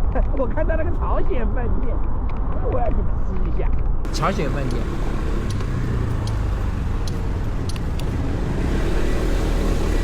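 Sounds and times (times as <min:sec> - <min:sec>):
outdoor street rumble: 0:00.0 - 0:10.0.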